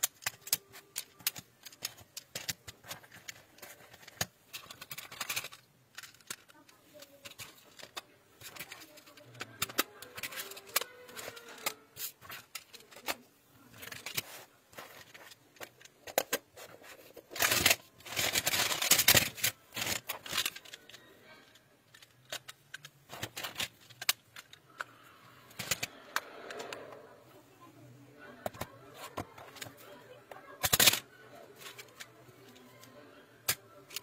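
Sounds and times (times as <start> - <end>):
plastic tiles rattling: 0.0 - 26.8, 30.5 - 32.1.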